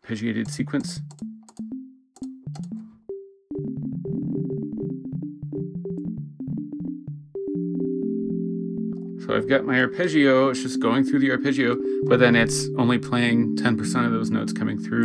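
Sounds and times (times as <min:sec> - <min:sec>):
synth arpeggio: 0:00.5 - 0:15.0.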